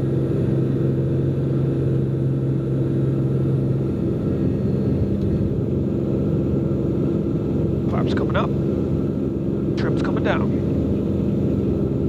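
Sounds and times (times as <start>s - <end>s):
aircraft engine rumbling: 0.0s - 12.0s
steady hum: 0.0s - 12.0s.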